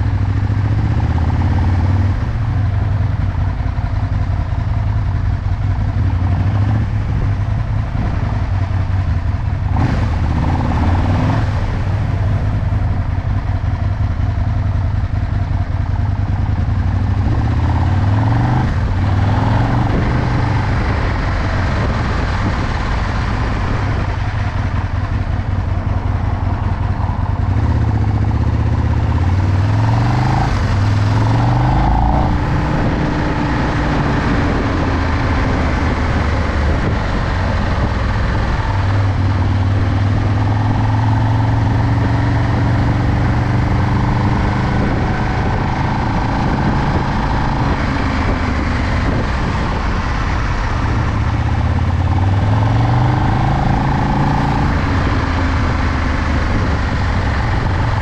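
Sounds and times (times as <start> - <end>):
motorcycle engine shifting gears: 0.0 - 58.0.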